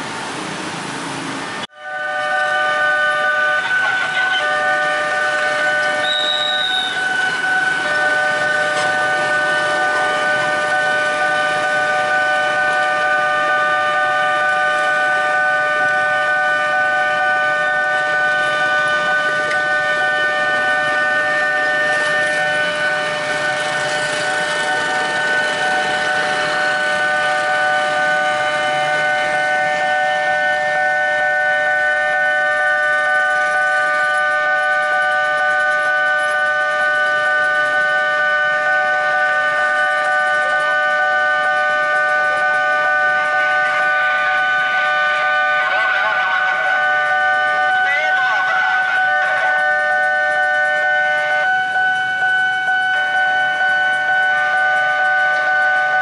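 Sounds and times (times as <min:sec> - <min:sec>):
level crossing warning alarm: 0:01.6 - 0:56.0.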